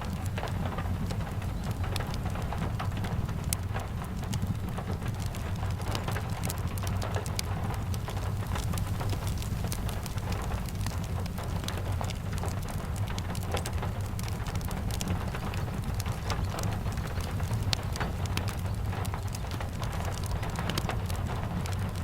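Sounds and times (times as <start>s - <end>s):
fire crackling: 0.0s - 22.0s
rain hiss: 0.0s - 22.0s.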